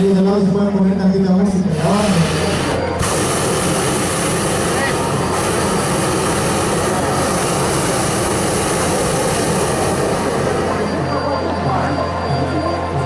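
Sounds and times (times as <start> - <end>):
propane burner blast: 1.5 - 12.1.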